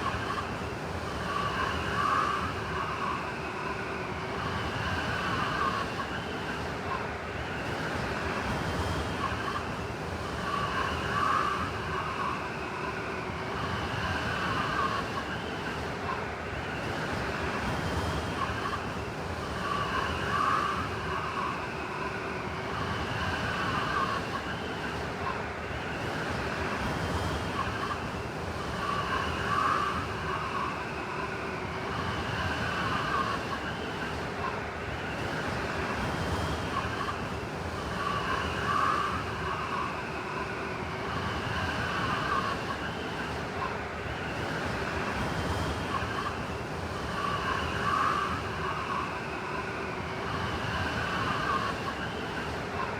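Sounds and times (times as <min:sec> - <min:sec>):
blizzard wind howling: 0:00.0 - 0:52.9
whistling wind gust: 0:00.0 - 0:52.9.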